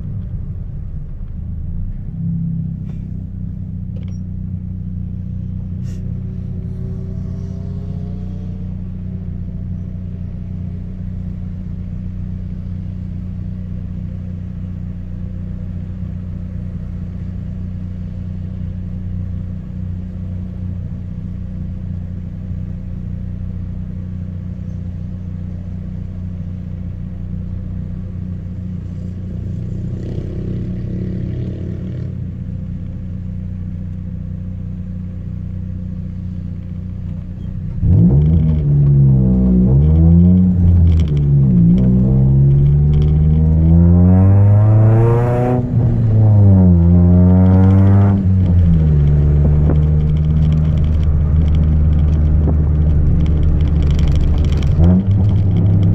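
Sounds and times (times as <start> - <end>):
car engine rumbling and revving: 0.0 - 55.9.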